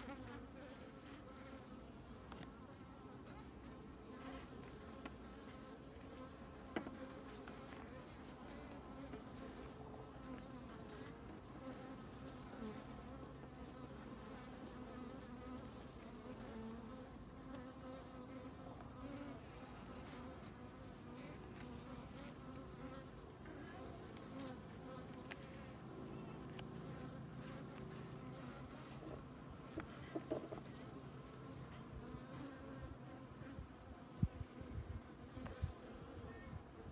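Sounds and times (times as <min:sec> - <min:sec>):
honeybees buzzing: 0:00.0 - 0:36.9.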